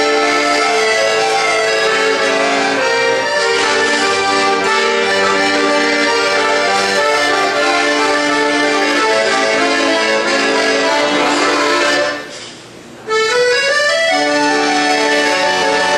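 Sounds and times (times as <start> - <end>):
piano accordion playing: 0.0 - 15.9.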